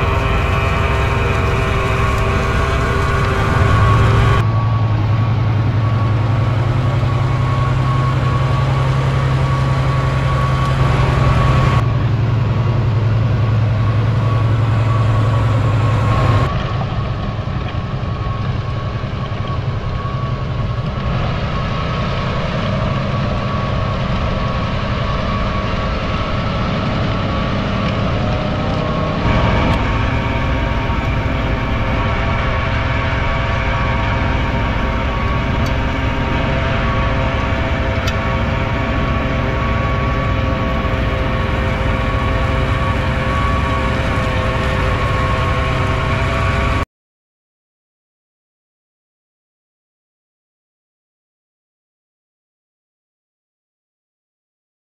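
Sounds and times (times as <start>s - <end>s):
rotary tiller through soil: 0.0s - 46.8s
steady high whine: 0.0s - 46.8s
tractor diesel engine under load: 0.0s - 46.9s.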